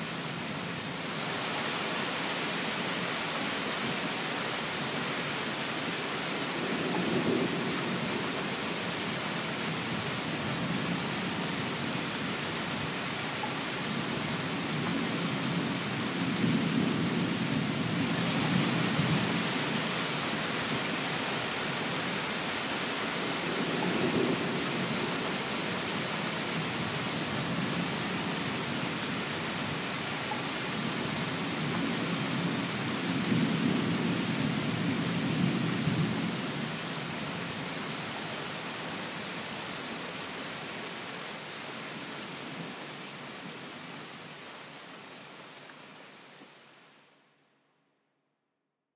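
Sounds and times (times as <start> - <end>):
steady rain hissing: 0.0 - 47.6.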